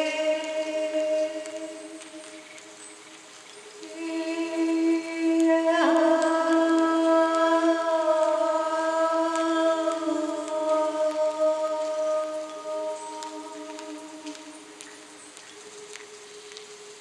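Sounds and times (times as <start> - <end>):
woman singing long note: 0.0 - 2.7, 3.8 - 15.1.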